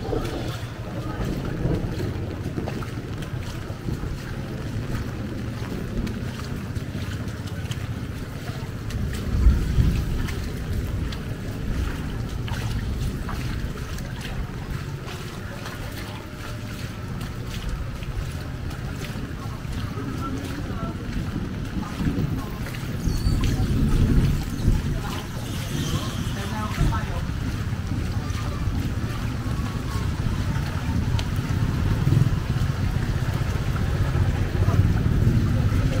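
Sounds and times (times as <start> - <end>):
heavy rain: 0.0 - 36.0
wind buffeting microphone: 0.0 - 36.0.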